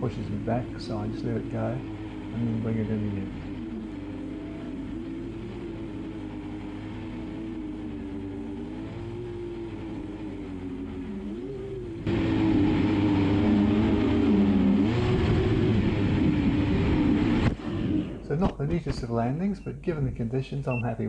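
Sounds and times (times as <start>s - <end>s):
drone propellers whirring: 0.0s - 20.9s.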